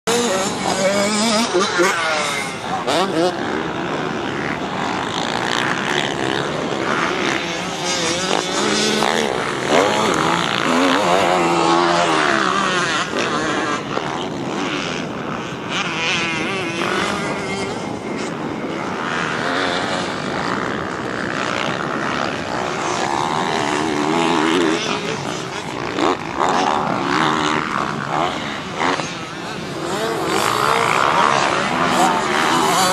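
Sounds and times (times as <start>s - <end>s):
motocross bike engine revving: 0.1s - 32.9s.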